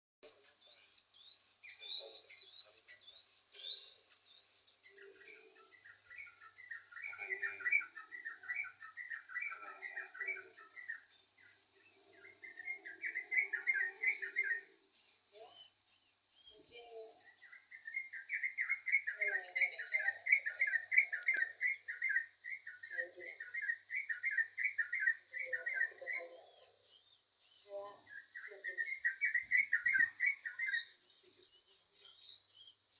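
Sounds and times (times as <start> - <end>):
bird singing: 0.2 - 32.9.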